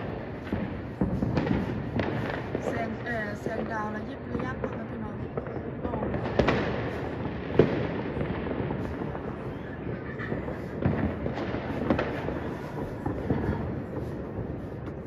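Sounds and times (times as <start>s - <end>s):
fireworks banging: 0.0s - 15.0s
fireworks crackling: 0.0s - 15.0s.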